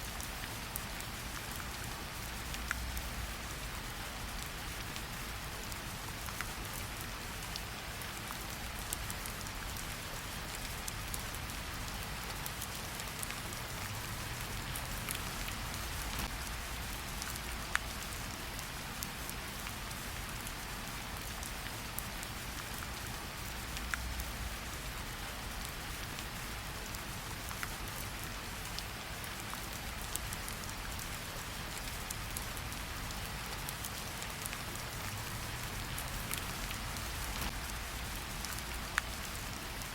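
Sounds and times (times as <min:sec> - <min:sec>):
steady rain hiss: 0:00.0 - 0:39.9
rain drop ticks: 0:00.2 - 0:39.9.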